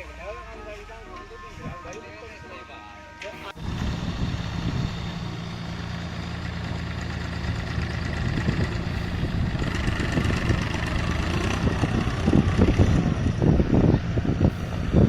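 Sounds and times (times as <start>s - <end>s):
high whine: 0.0s - 15.0s
tractor diesel engine running: 0.0s - 15.0s.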